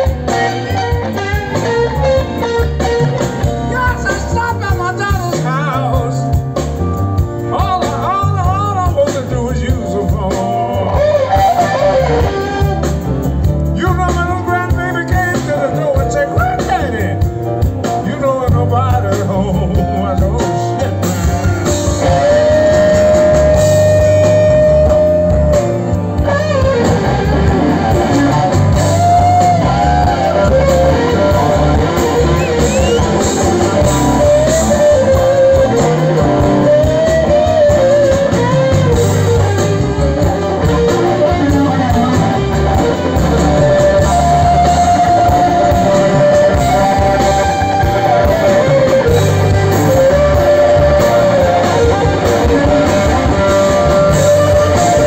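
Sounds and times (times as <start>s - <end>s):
bass: 0.0s - 55.0s
drums: 0.0s - 55.0s
electric guitar lead bending notes: 0.0s - 55.0s.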